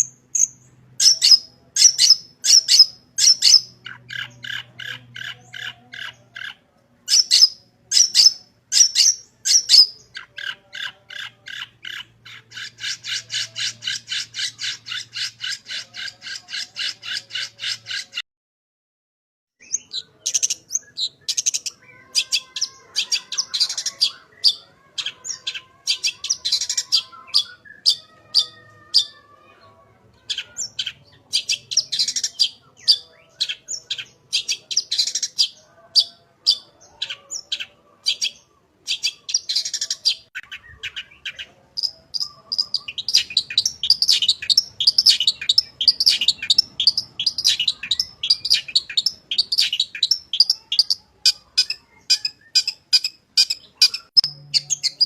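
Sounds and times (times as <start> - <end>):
bird singing scratchy chirps: 0.0 - 18.2, 19.6 - 29.5, 30.2 - 55.0.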